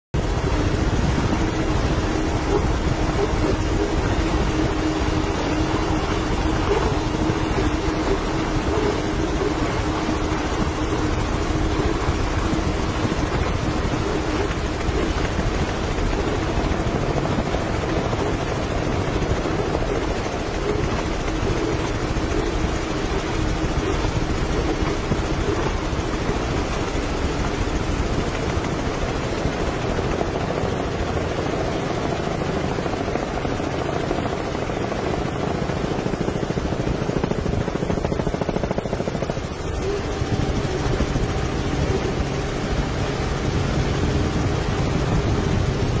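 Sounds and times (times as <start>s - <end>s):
outboard motors running at high speed: 0.2s - 46.0s.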